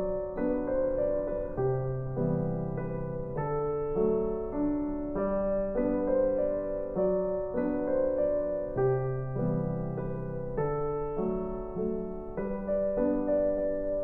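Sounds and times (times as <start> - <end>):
gentle solo piano piece: 0.0 - 14.0.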